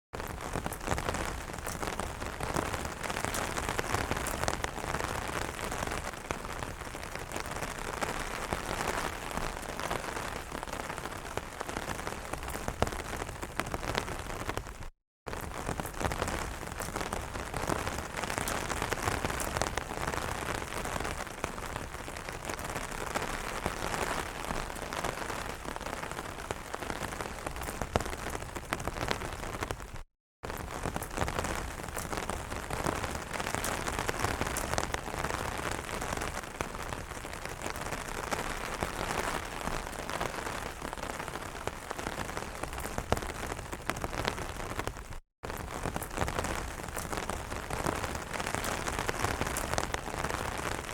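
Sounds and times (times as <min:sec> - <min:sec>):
rain pattering on an umbrella: 0:00.2 - 0:50.9.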